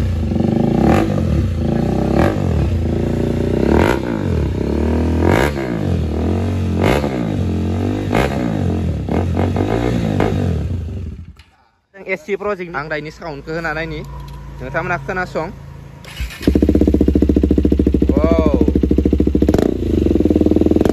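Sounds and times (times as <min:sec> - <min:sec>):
motorcycle engine revving: 0:00.0 - 0:11.4, 0:13.0 - 0:20.9.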